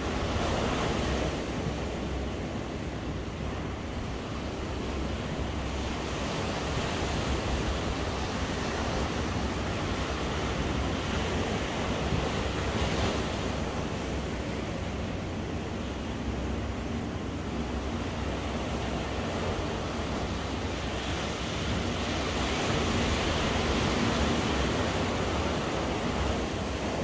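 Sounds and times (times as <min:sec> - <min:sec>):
surf breaking on shore: 0:04.5 - 0:27.0.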